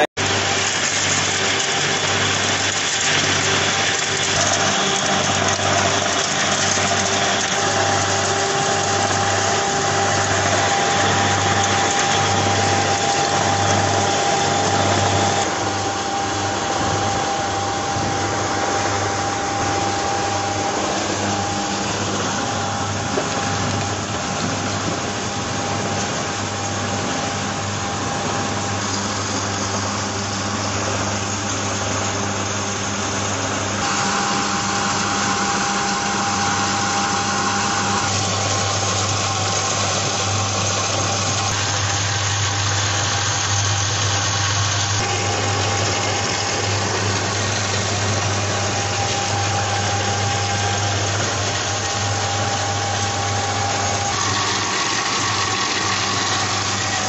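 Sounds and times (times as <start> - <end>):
electric motor hum: 0.0 - 57.0.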